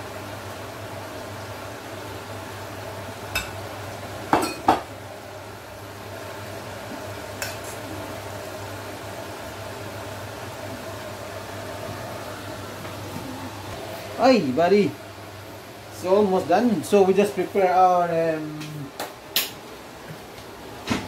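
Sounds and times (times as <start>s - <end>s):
chicken deep-frying in oil: 0.0s - 19.7s.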